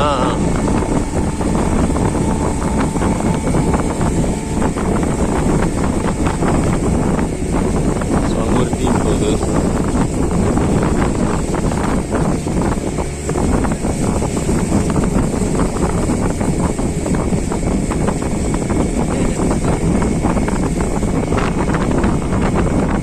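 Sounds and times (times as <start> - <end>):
motorboat engine running: 0.0 - 23.0
wind buffeting microphone: 0.0 - 23.0.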